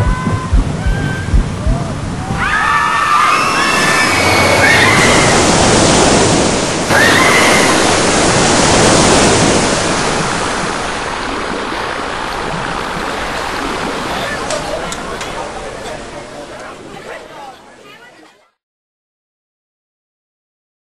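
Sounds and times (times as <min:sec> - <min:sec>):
boat splashing into pool: 0:00.0 - 0:17.6
water ride boat rushing down chute: 0:00.0 - 0:18.4.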